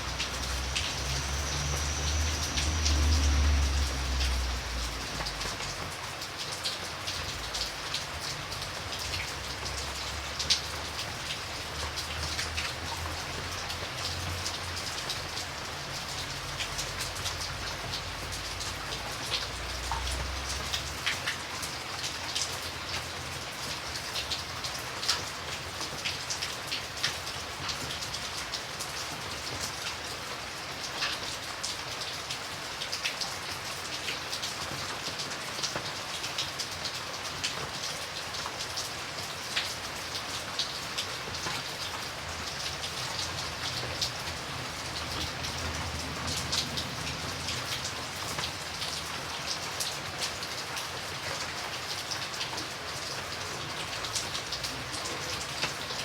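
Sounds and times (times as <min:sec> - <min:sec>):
rain falling: 0:00.0 - 0:56.0
raindrops tapping surfaces: 0:00.0 - 0:56.0.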